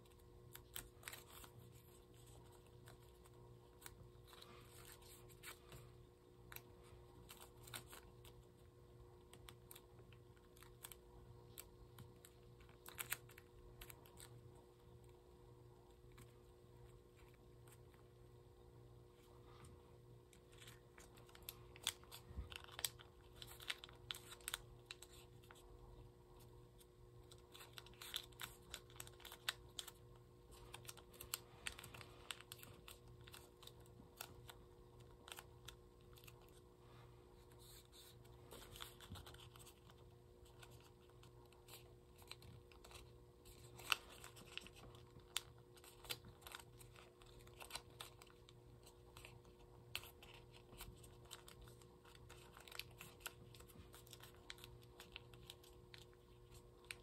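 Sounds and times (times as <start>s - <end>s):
paper being folded and creased: 0.0s - 14.4s, 20.3s - 36.8s, 37.4s - 57.0s
faint steady hum: 0.0s - 57.0s.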